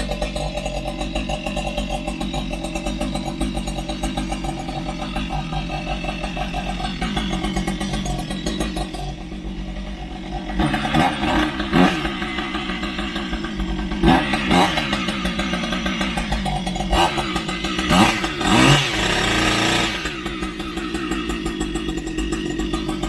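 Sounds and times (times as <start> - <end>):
chainsaw engine revving: 0.0 - 23.0.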